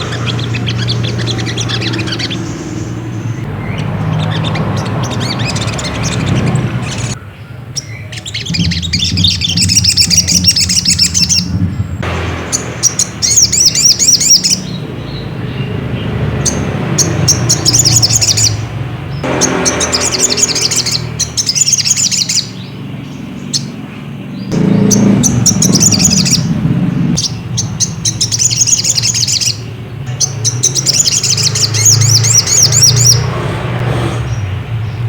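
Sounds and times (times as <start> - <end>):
bird chattering twitters and trills: 0.0 - 35.0.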